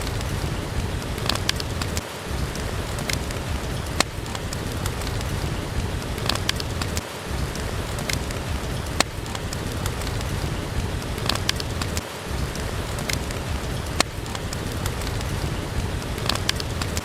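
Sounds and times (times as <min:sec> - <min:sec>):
sharp crackles and pops: 0:00.0 - 0:17.0
steady rain with low rumble: 0:00.0 - 0:17.0.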